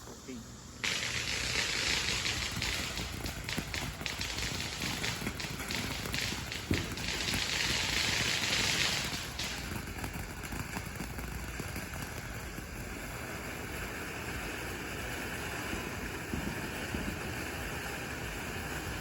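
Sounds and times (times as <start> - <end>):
faint outdoor background: 0.0 - 19.0
firework sparks hissing: 0.0 - 19.0
firework pop: 0.8 - 18.2.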